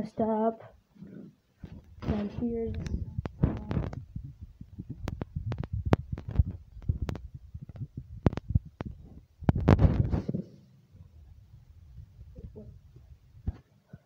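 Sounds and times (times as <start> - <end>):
microphone rubbing rumble: 1.0 - 13.6.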